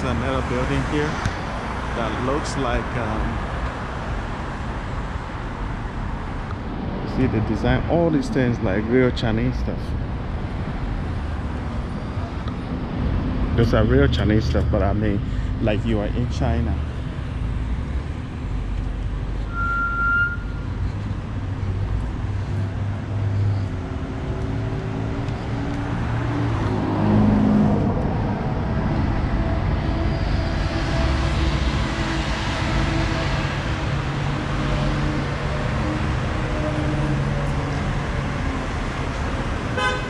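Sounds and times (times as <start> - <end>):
cars driving past: 0.0 - 40.0.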